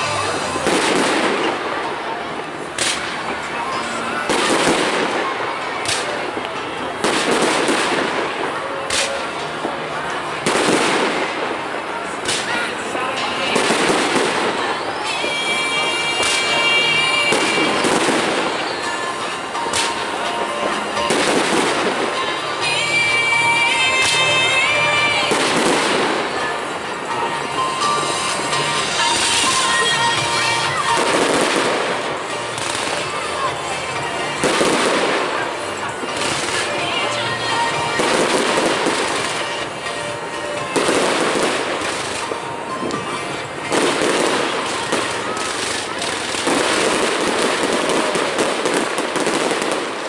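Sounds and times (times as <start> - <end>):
fireworks crackling: 0.0 - 50.0.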